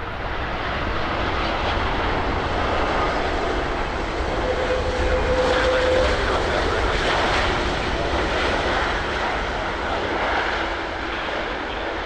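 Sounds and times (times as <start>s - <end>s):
jet engine whine: 0.0s - 12.0s.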